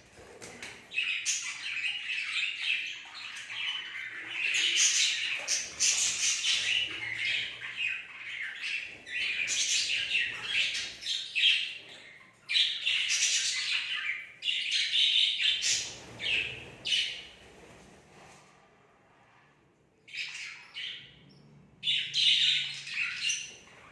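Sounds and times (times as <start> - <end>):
budgerigars chirping and squawking: 0.9 - 17.4, 20.1 - 21.2, 21.8 - 23.9.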